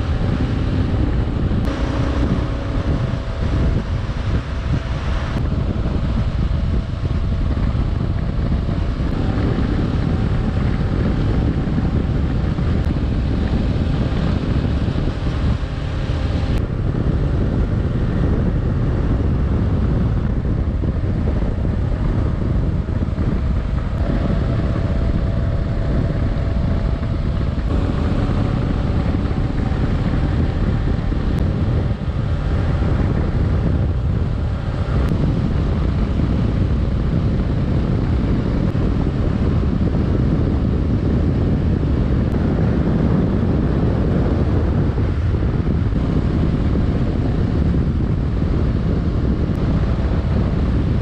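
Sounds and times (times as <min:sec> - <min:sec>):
motorcycle engine drone: 0:00.0 - 0:51.0
wind buffeting on microphone: 0:00.0 - 0:51.0.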